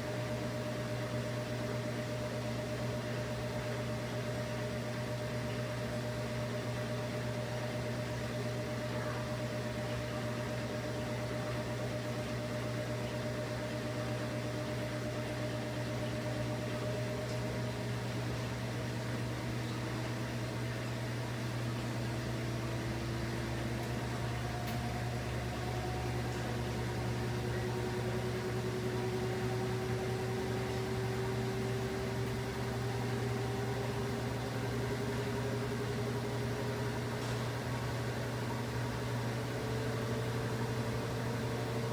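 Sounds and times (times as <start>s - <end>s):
washing machine hum and swish: 0.0s - 41.9s.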